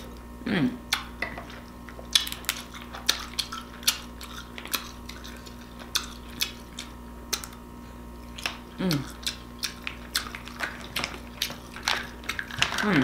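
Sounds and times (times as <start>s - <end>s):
chewing: 0.9s - 7.6s, 8.2s - 13.0s.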